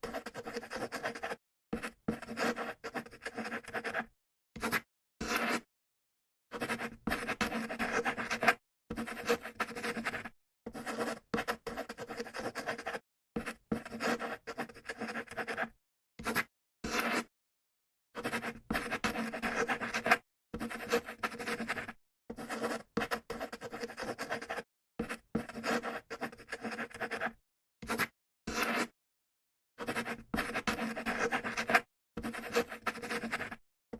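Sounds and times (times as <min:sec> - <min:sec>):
pen writing on paper: 0:00.0 - 0:05.7, 0:06.5 - 0:17.3, 0:18.2 - 0:29.0, 0:29.8 - 0:33.6.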